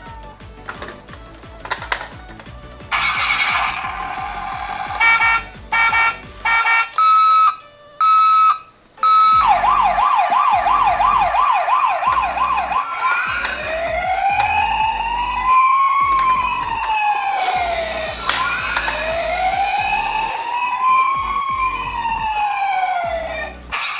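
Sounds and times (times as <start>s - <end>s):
toy electronic siren: 1.6s - 23.9s
siren beeps: 2.9s - 23.9s.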